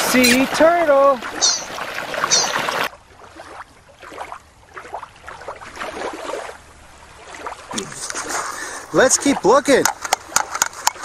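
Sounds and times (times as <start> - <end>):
rushing stream water: 0.0 - 11.0.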